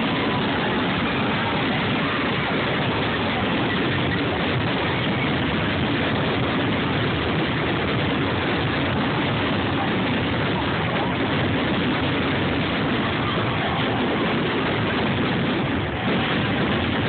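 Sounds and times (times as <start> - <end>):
fireworks rumble and crackle: 0.0 - 17.0.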